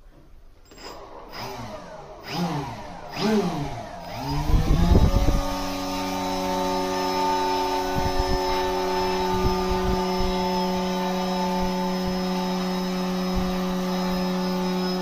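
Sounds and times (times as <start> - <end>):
electric motor and propeller whine: 0.7 - 15.0.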